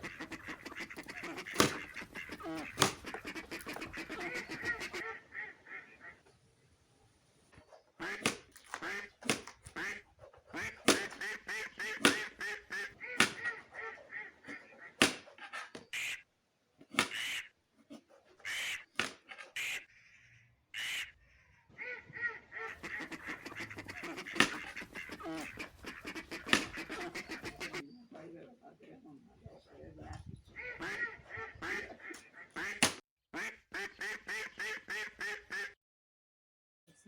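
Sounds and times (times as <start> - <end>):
ducks quacking: 0.0 - 6.7, 7.6 - 35.8.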